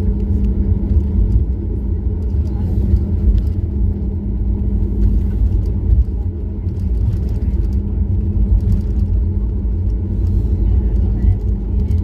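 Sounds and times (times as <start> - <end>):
constant hum: 0.0 - 12.0
jet engine cabin rumble: 0.0 - 12.0.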